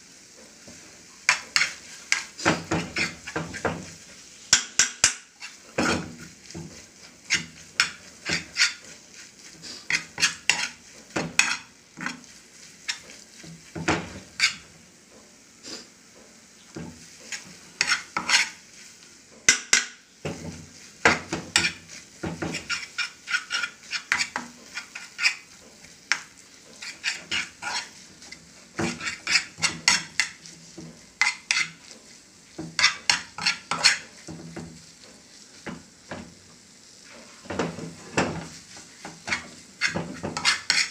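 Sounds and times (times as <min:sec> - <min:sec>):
food sizzling: 0:00.0 - 0:40.9
spatula scraping frying pan: 0:00.2 - 0:40.9.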